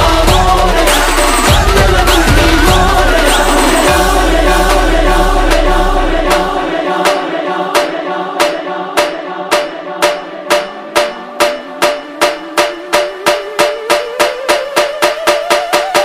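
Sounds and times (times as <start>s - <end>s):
devotional music with singing: 0.0s - 14.9s
sharp percussion beat: 0.0s - 16.0s.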